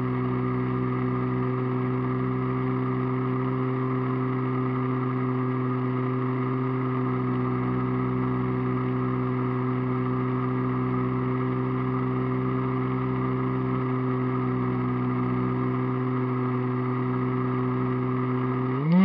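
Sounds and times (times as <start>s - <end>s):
model airplane motor droning: 0.0s - 19.0s.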